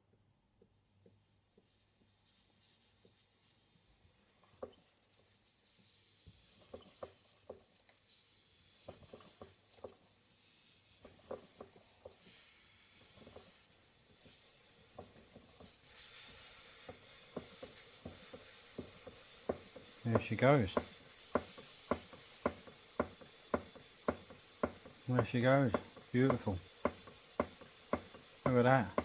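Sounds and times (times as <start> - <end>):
compressed air hissing: 1.5 - 29.0.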